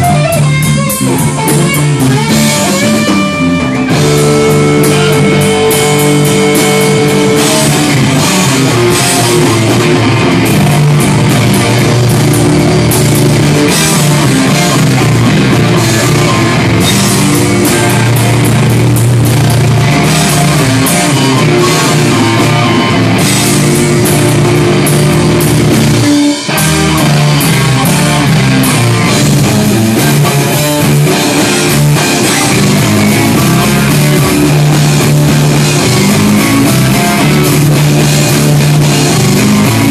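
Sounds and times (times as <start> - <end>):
loud rock band playing: 0.0 - 39.9.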